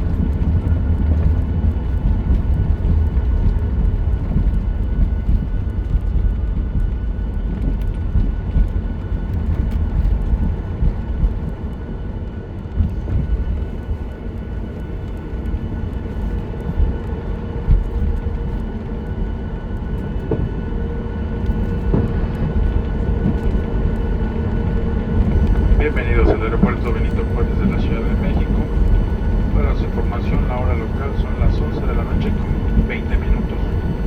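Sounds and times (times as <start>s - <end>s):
aircraft cabin engine rumble: 0.0s - 34.0s
faint steady tones: 0.0s - 34.0s.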